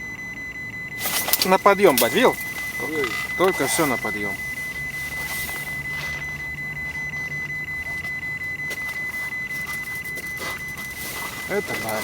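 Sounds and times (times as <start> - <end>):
high-pitched electronic whine: 0.0 - 12.0
low hum: 0.0 - 12.0.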